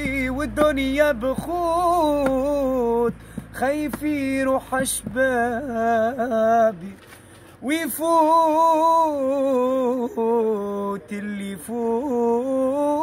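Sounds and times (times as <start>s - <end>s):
man singing unaccompanied: 0.0s - 7.0s, 7.6s - 13.0s.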